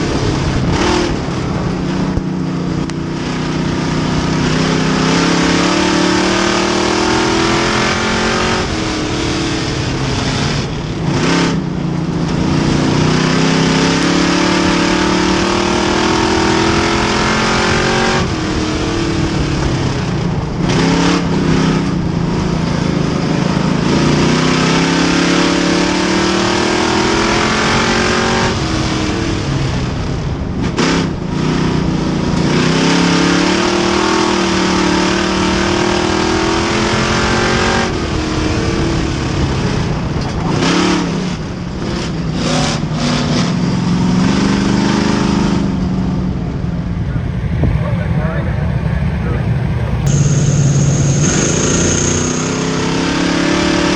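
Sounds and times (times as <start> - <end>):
race car engines: 0.0 - 53.9.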